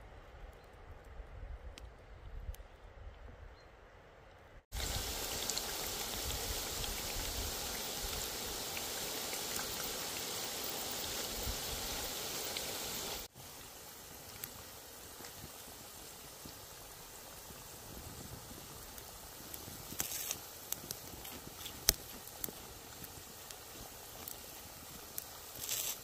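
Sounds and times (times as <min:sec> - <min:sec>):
onion rings sizzling in hot oil: 0:04.7 - 0:26.0.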